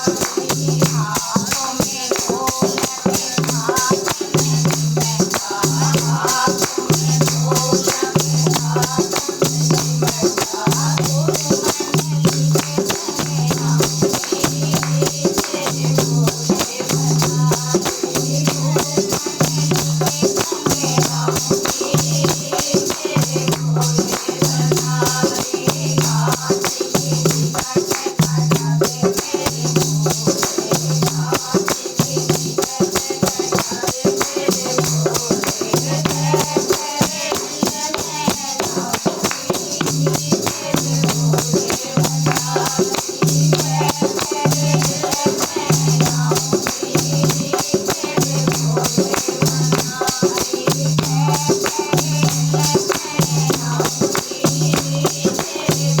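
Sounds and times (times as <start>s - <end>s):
rapid jingling percussion: 0.0s - 56.0s.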